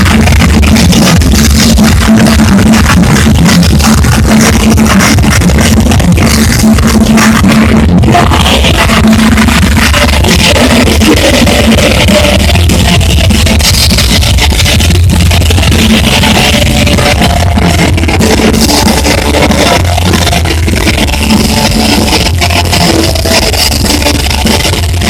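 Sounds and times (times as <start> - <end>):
distorted electric guitar: 0.0 - 25.0
live rock band playing: 0.0 - 25.0.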